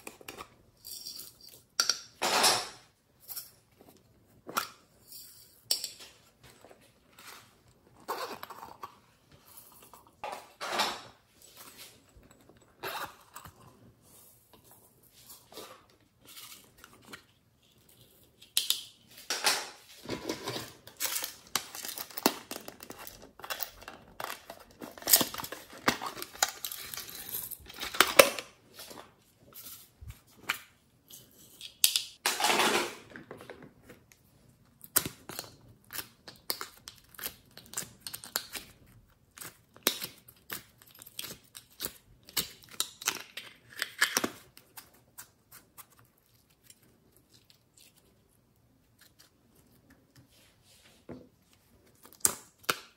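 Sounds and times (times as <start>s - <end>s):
crinkling and scraping: 0.0s - 52.8s.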